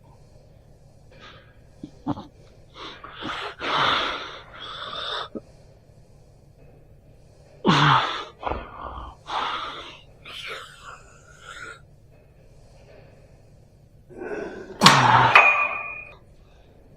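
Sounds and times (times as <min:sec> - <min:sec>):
person breathing heavily: 0:00.0 - 0:14.8.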